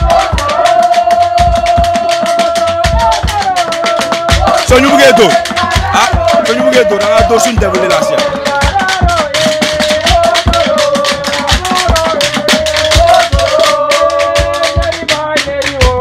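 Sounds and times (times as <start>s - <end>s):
drum beat: 0.0s - 16.0s.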